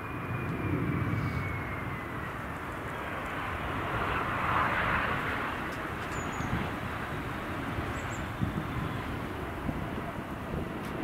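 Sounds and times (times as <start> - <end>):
jet engine rush: 0.0 - 11.0
jet engines whining: 0.0 - 11.0.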